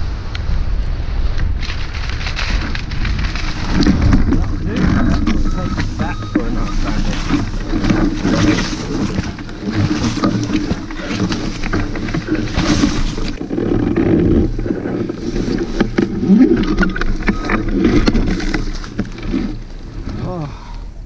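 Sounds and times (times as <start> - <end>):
wind buffeting microphone: 0.0 - 21.0
leaves and straw rustling: 1.0 - 20.4.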